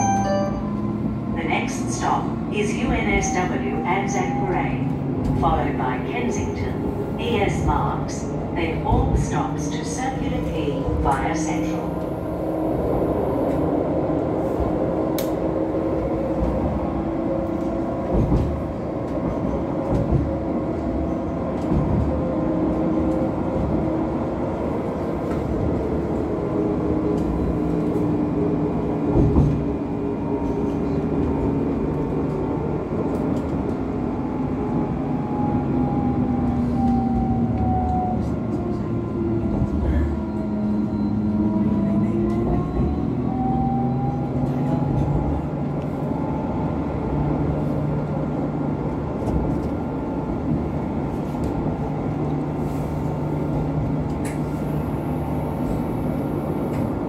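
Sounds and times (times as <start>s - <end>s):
tram wheels rumbling on rail: 0.0s - 57.0s.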